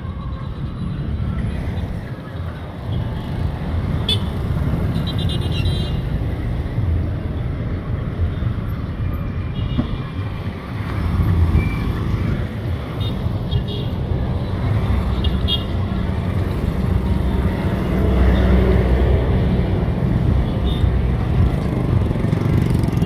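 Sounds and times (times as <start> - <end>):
traffic passing: 0.0 - 23.0.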